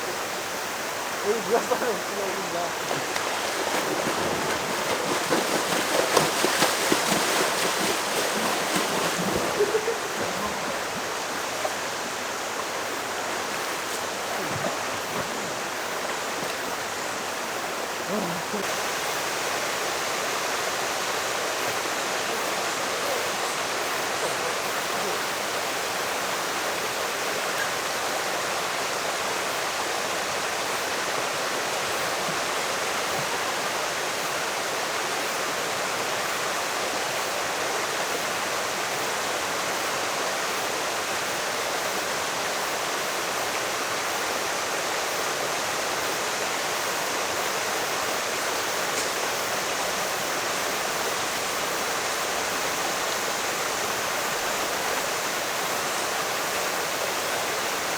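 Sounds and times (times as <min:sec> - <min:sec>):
stream water rushing: 0:00.0 - 0:57.9.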